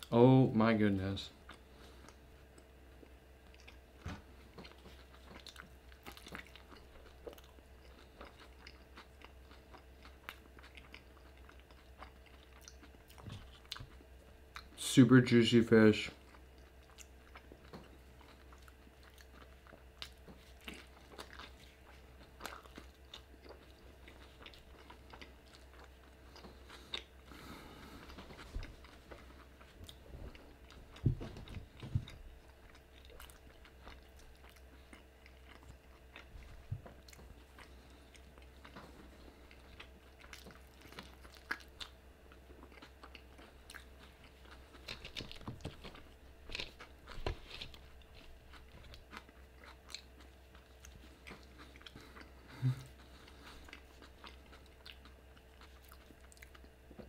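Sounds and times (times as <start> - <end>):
person chewing food: 1.4 - 14.8, 16.1 - 57.0.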